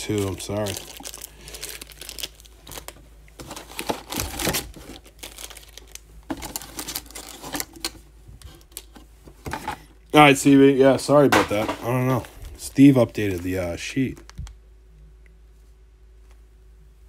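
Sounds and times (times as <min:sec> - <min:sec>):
foil card packs crinkling: 0:00.0 - 0:14.6.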